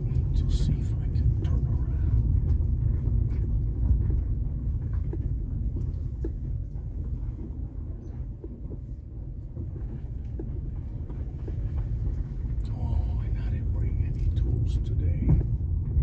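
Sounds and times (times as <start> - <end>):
car tyres rumbling on gravel: 0.0 - 16.0
light ticks and rattles: 0.0 - 16.0.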